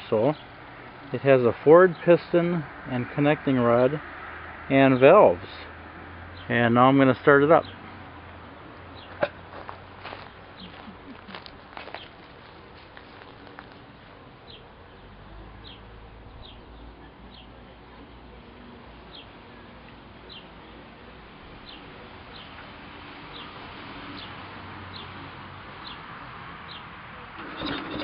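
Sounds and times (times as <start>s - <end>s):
faint outdoor background noise: 0.0s - 28.0s.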